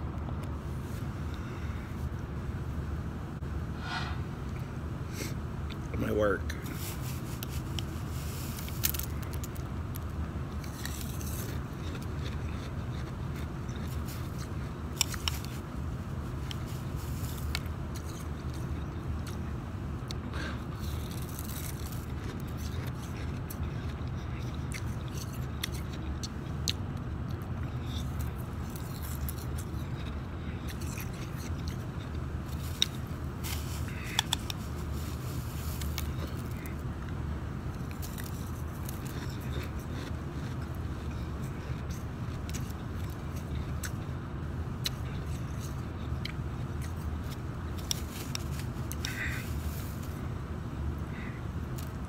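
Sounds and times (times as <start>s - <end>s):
steady low hum: 0.0s - 52.0s
shaved ice crunching when chewed: 5.7s - 50.3s, 51.0s - 52.0s.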